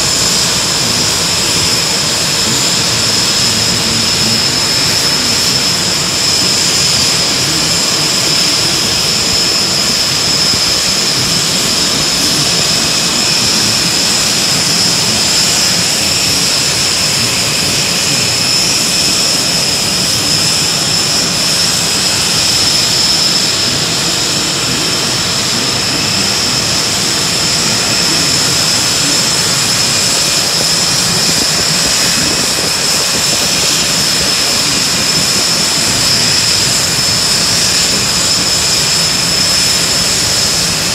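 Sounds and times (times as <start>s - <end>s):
loud rushing noise: 0.0s - 40.9s
turbine engine high whine: 0.0s - 40.9s.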